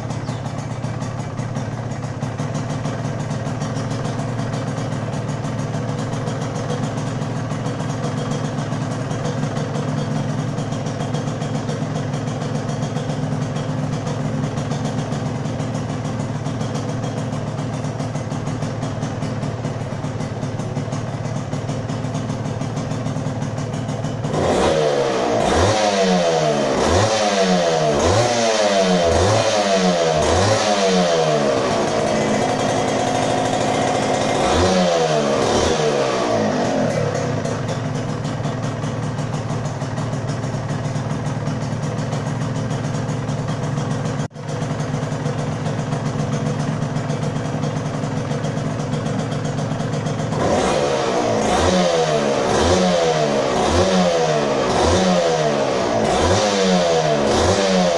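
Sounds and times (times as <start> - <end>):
two-stroke engine revving and idling: 0.0 - 57.9.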